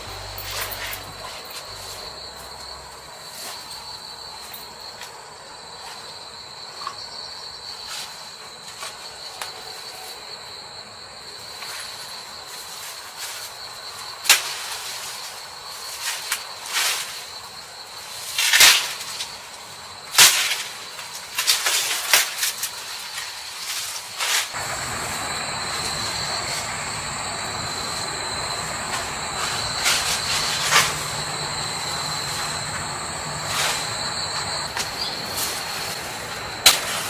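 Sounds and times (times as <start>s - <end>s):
knocks and clatters of camp work: 0.0s - 10.2s, 11.5s - 17.2s, 18.3s - 37.0s
insects chirring: 0.0s - 37.0s.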